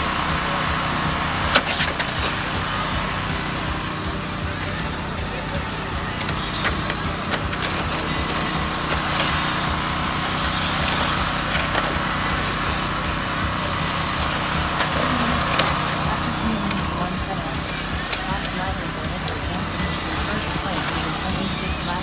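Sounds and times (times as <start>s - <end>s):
electric toy car motors whining: 0.0s - 22.0s.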